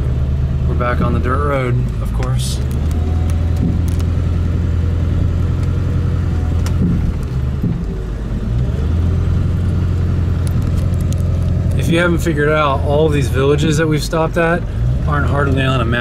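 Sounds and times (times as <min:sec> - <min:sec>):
truck engine and tyres rumbling: 0:00.0 - 0:16.0.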